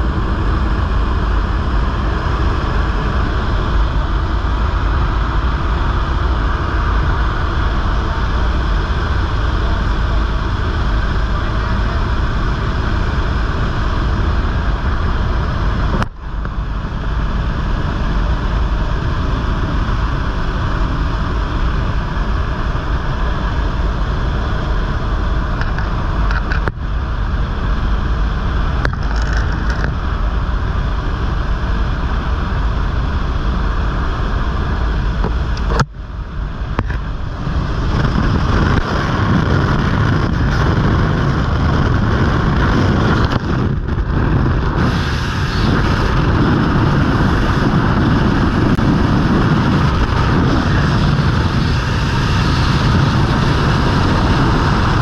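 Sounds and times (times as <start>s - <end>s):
wind and plane engine rush: 0.0s - 55.0s.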